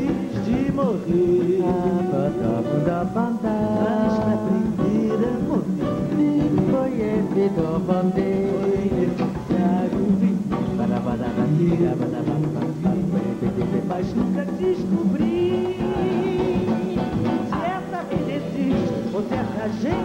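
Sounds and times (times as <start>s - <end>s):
nylon-string acoustic guitar: 0.0s - 20.0s
woman singing: 0.0s - 20.0s.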